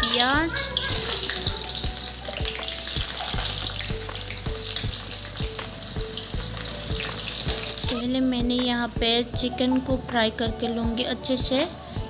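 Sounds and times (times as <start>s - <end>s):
onions sizzling in oil: 0.0s - 10.4s.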